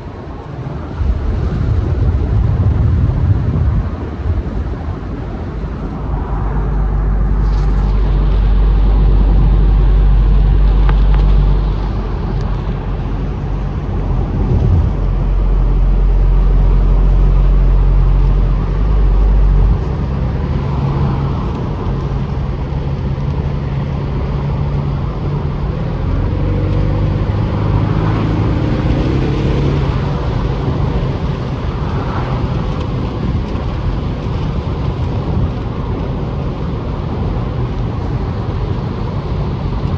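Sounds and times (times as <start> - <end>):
car engine running: 0.0 - 39.9
heavy low drone: 0.0 - 39.9
road noise: 0.0 - 39.9.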